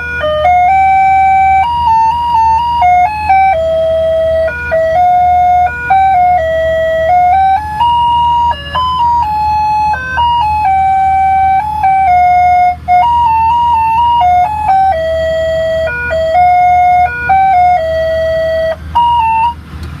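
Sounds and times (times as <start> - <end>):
electronic chime melody: 0.0 - 19.6.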